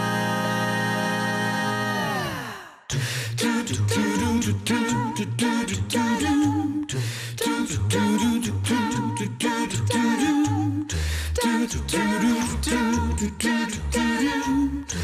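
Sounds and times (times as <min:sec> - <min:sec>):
person singing: 0:00.0 - 0:15.0.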